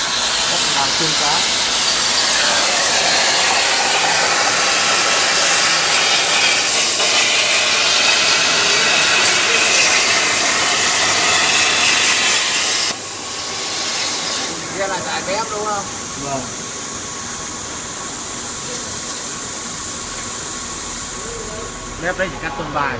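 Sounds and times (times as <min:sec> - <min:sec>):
plasma cutting torch hissing: 0:00.0 - 0:22.3.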